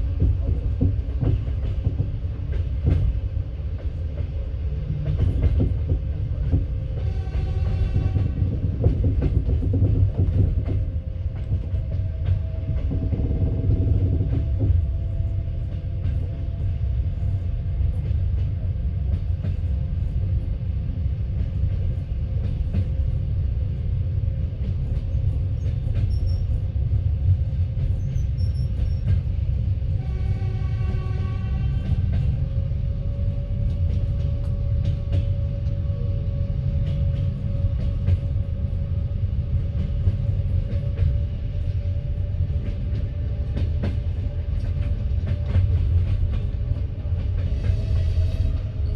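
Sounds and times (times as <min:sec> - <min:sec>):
train rumbling on rails: 0:00.0 - 0:48.9.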